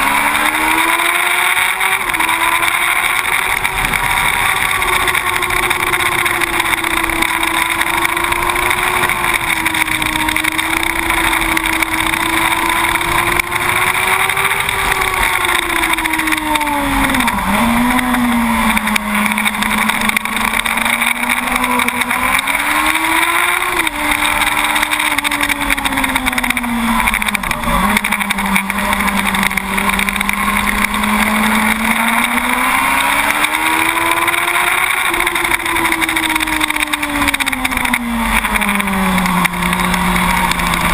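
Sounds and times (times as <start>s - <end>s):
motorcycle engine running hard: 0.0s - 40.9s.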